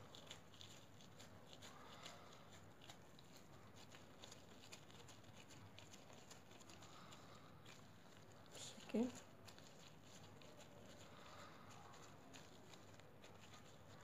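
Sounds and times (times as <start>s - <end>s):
gloved hands shaping dough: 0.0s - 14.0s.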